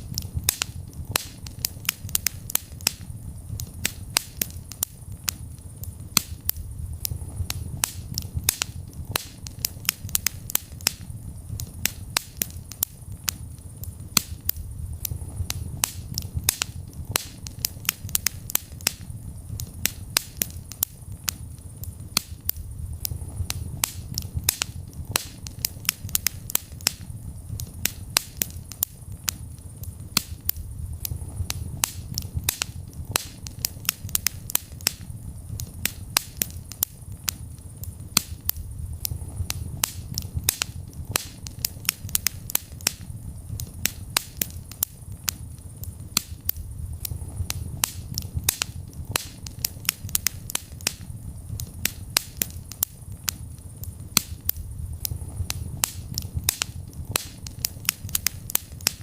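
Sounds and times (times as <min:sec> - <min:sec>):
fire crackles and pops: 0:00.0 - 0:59.0
wood fire flames rumbling: 0:00.0 - 0:59.0.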